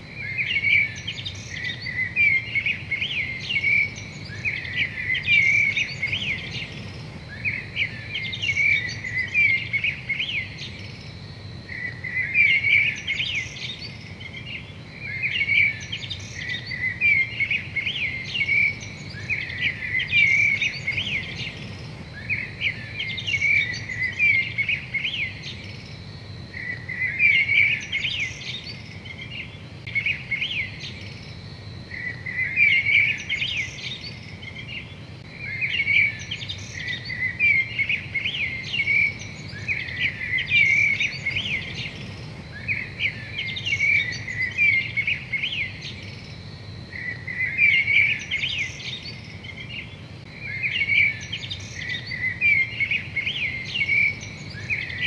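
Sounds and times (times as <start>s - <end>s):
low steady hum: 0.0s - 55.0s
songbird chirping and trilling: 0.0s - 55.0s.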